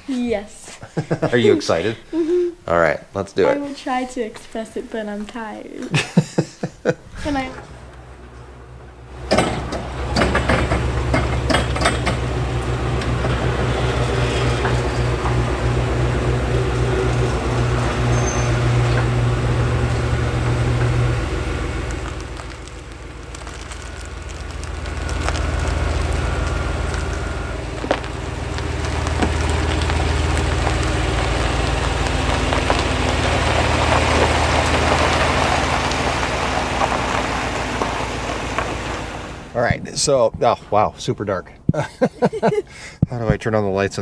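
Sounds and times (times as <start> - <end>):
suv engine running: 0.0 - 44.0.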